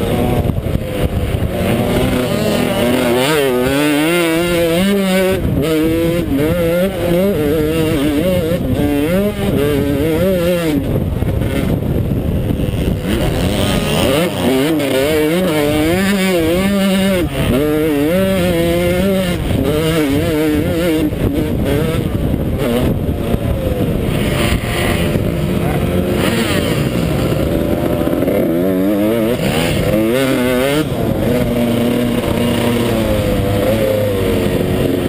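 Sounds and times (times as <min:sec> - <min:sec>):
motocross engine revving: 0:00.0 - 0:35.0.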